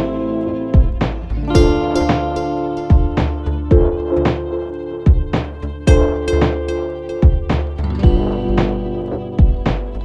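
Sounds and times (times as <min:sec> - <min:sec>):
instrumental relaxation music: 0:00.0 - 0:10.0.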